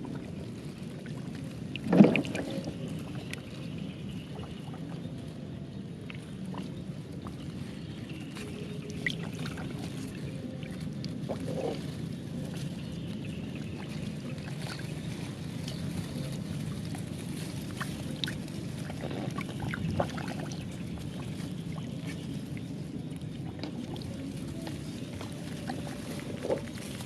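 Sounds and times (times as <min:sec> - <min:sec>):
shallow water sloshing: 0:00.0 - 0:27.0
small splashes and clicks: 0:00.0 - 0:27.0.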